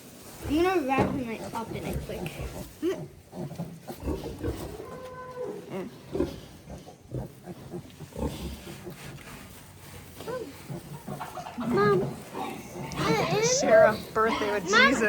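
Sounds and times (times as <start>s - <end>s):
pig grunting: 1.4s - 15.0s.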